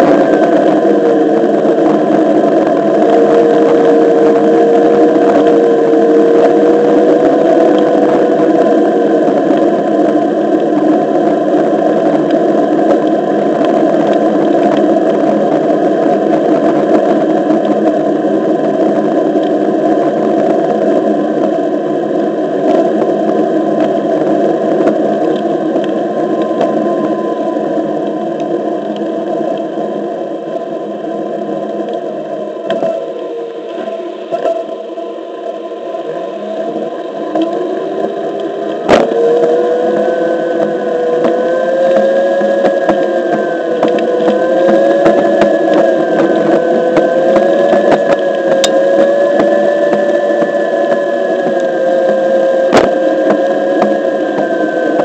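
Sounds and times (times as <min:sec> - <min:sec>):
electric motor whine: 0:00.0 - 0:55.0.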